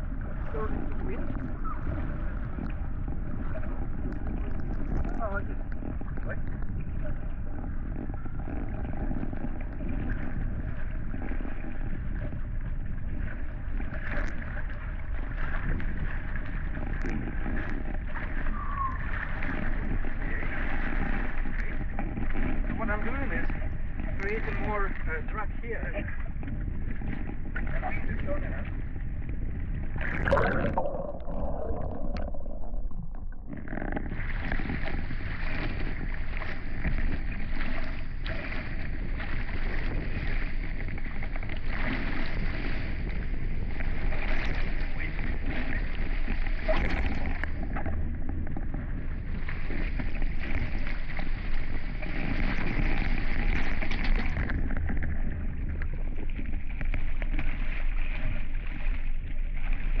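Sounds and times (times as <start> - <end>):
water rushing past hulls: 0.0 - 60.0
wind rumble on microphone: 0.0 - 60.0.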